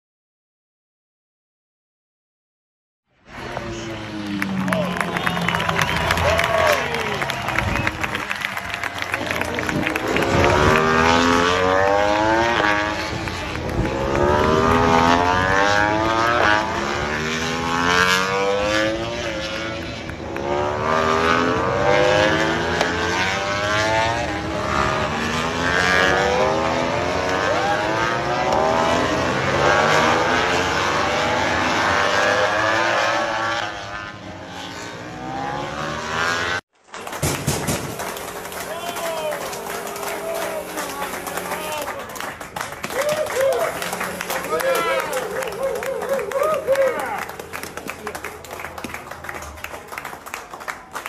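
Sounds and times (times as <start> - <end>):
racing motorcycle engines accelerating: 3.2 - 51.0.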